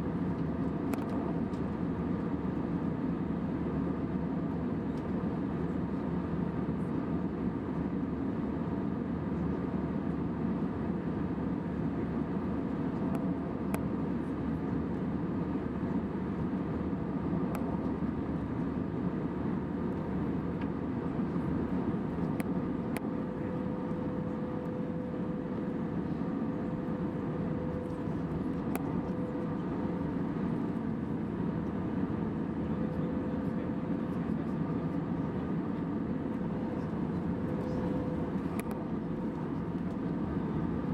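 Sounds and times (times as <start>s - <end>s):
aircraft cabin roar: 0.0s - 40.9s
faint steady hum: 0.0s - 40.9s.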